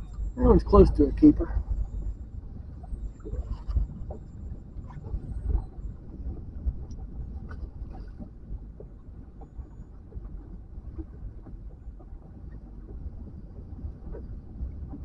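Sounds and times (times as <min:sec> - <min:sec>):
wind rumbling on microphone: 0:00.0 - 0:15.0
faint clicks and knocks: 0:01.4 - 0:15.0.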